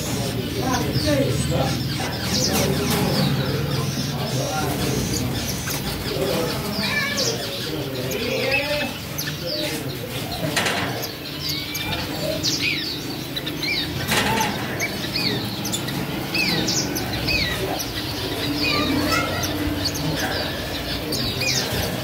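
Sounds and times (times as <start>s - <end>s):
finches chirping: 0.0s - 22.0s.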